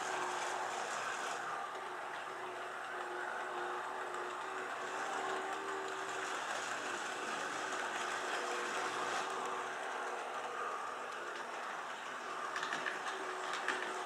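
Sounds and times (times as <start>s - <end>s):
model train motor whirring: 0.0s - 14.0s.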